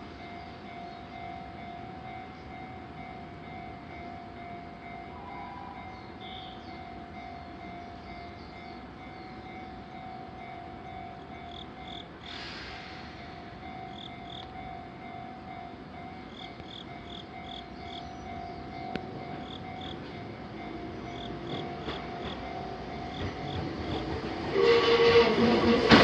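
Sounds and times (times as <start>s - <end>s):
train passing through crossing: 0.0s - 26.0s.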